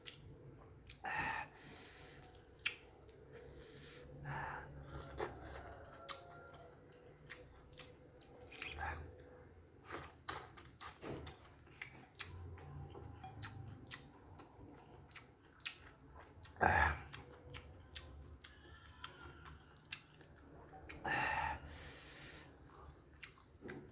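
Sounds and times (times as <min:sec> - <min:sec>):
man chewing food: 0:00.0 - 0:23.9.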